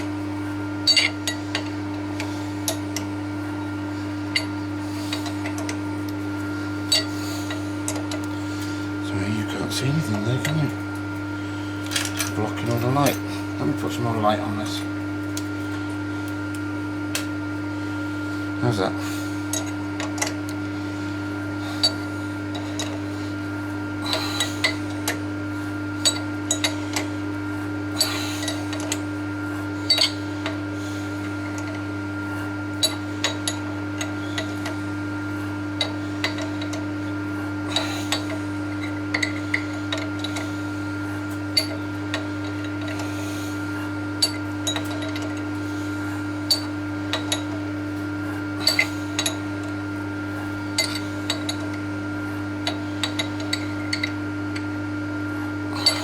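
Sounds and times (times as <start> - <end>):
machine motor humming: 0.0 - 56.0.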